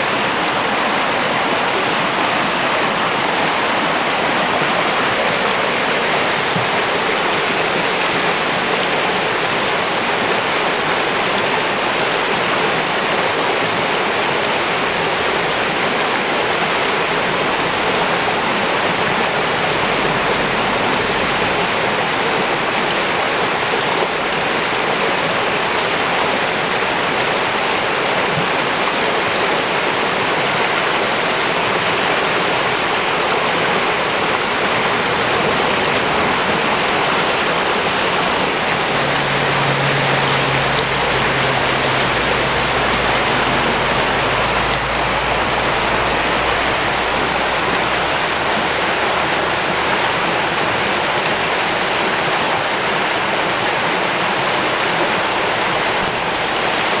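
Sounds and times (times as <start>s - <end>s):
river rapids rushing over rocks: 0.0s - 57.0s.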